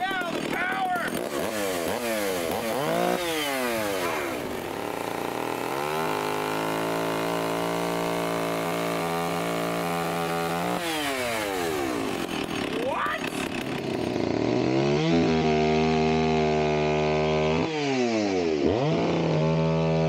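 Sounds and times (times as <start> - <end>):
chainsaw revving: 0.0 - 20.0.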